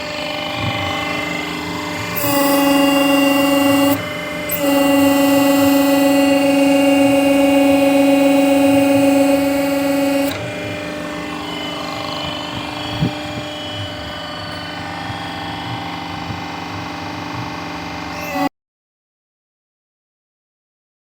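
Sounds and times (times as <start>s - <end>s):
hydraulic power unit humming: 0.0s - 18.5s.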